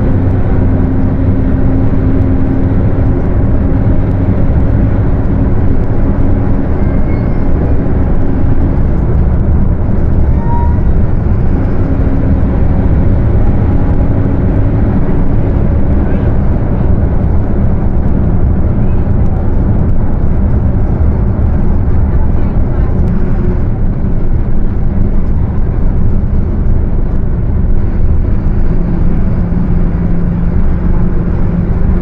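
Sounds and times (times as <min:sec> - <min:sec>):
bus engine rumbling: 0:00.0 - 0:32.0
differential drone: 0:00.0 - 0:32.0.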